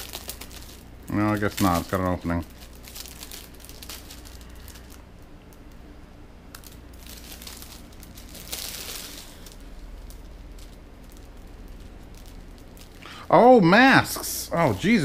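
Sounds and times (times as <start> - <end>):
plastic bag crinkling and tearing: 0.0 - 5.8, 6.5 - 13.5.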